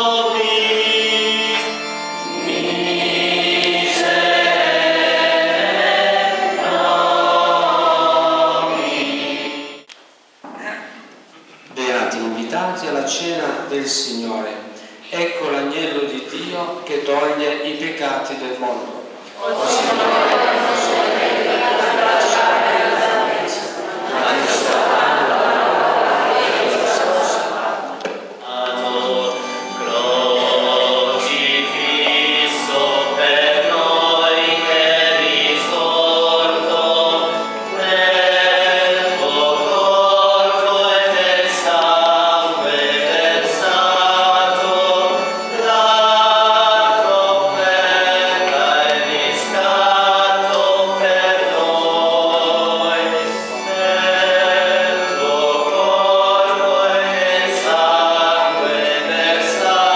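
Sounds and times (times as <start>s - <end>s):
church choir singing a hymn: 0.0s - 9.9s, 14.6s - 59.9s.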